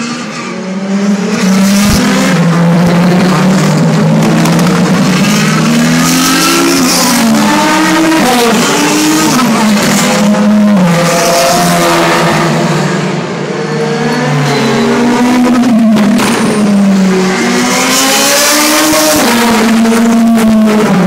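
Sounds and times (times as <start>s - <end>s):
race cars passing: 0.0s - 21.0s.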